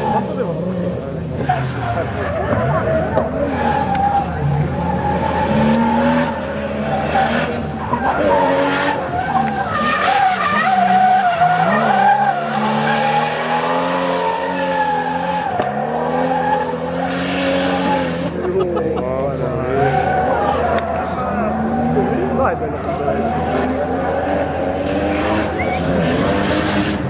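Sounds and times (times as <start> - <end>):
car engine at high revs: 0.0 - 27.0
tyres skidding on tarmac: 0.0 - 27.0.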